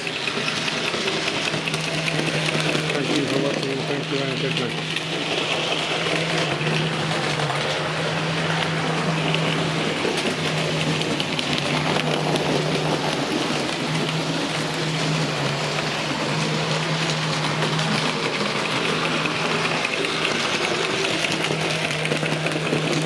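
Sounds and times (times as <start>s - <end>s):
model train motor hum: 0.0s - 23.0s
wheels rattling on rail: 0.0s - 23.0s.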